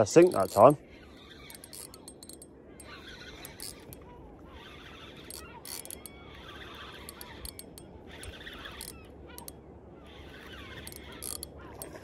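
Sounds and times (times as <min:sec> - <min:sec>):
distant seagulls calling: 0:00.0 - 0:12.0.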